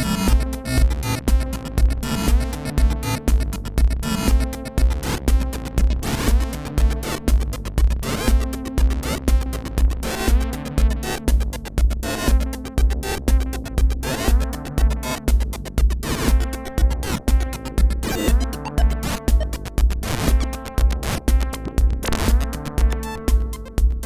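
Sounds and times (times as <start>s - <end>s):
clicking percussion: 0.0s - 23.8s
synth bass line: 0.0s - 24.0s
synth kick drum: 0.0s - 24.0s.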